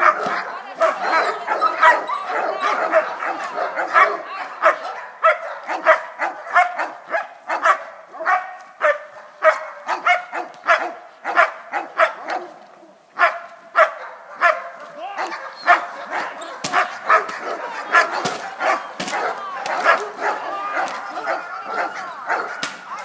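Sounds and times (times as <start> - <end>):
dog barking: 0.0 - 12.6, 13.2 - 23.0.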